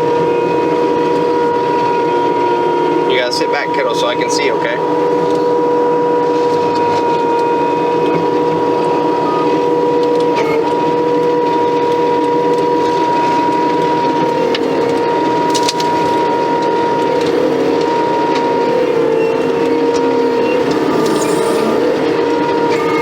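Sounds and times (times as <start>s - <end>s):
stump grinder machine droning: 0.0s - 23.0s.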